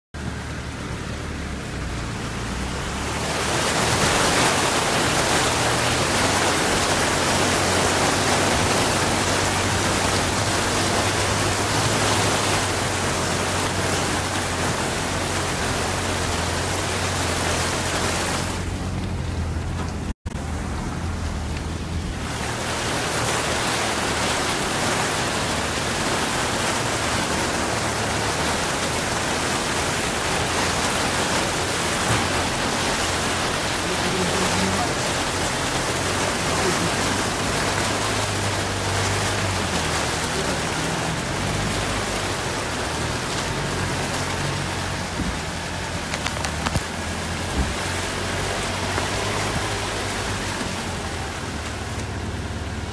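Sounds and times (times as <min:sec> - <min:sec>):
vehicle engine running low: 0:00.2 - 0:52.9
water rushing and splashing: 0:00.2 - 0:52.9.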